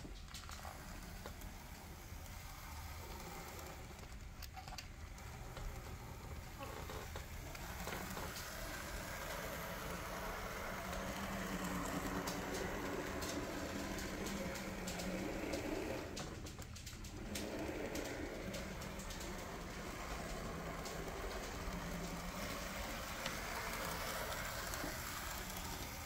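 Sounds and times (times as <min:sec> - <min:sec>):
model train motor whir: 0:00.0 - 0:26.0.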